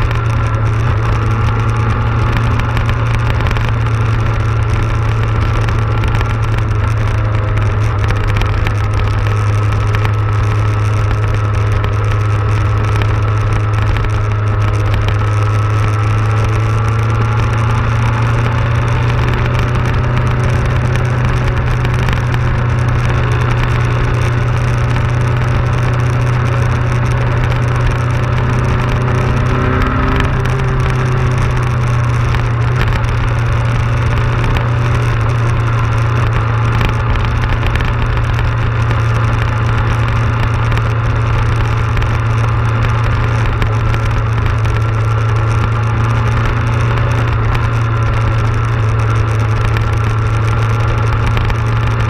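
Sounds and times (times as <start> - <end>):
motorcycle engine cruising: 0.0 - 52.0
road noise: 0.0 - 52.0.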